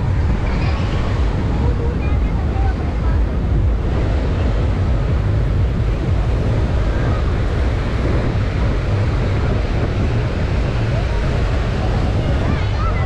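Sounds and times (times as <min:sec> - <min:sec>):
surf breaking on sand: 0:00.0 - 0:13.0
wind rumbling on microphone: 0:00.0 - 0:13.0.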